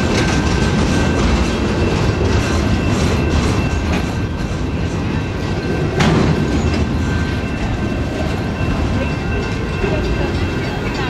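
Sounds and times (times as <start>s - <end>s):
train wheels rumbling on rails: 0.0s - 11.0s
wheels clicking over rail joints: 0.0s - 11.0s.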